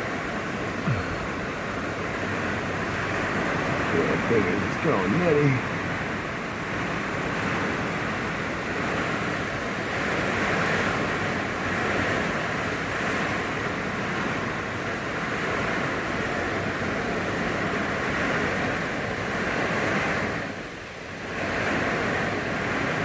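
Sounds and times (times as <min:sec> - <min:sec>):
strong hurricane wind: 0:00.0 - 0:23.0.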